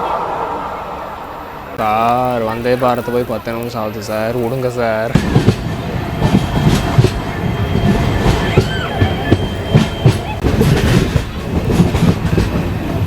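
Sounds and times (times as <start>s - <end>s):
train rumble: 0.0s - 13.0s
train wheels clickety-clack: 1.8s - 13.0s.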